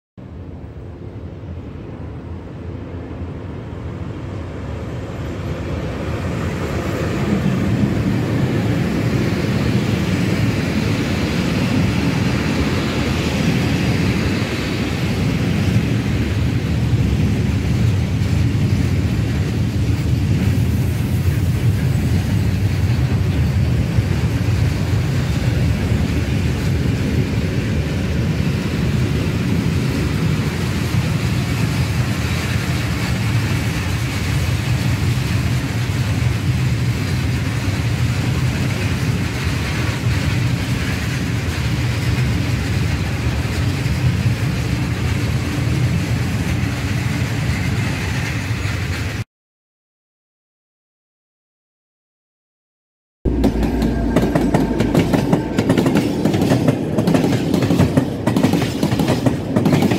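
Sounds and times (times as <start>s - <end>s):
freight train passing: 0.2s - 49.2s, 53.3s - 59.9s
wheels rumbling on rails: 0.2s - 49.2s, 53.3s - 59.9s.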